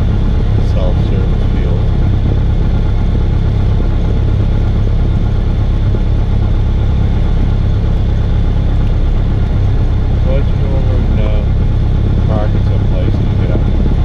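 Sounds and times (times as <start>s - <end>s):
propeller plane engine idling: 0.0s - 14.0s.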